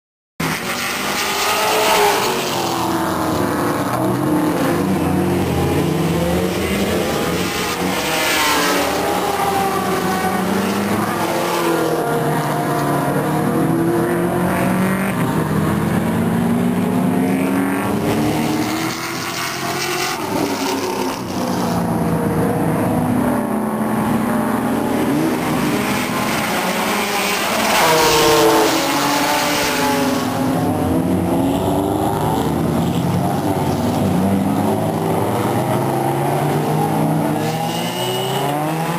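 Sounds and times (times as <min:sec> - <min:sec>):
race car engines revving: 0:00.4 - 0:38.9.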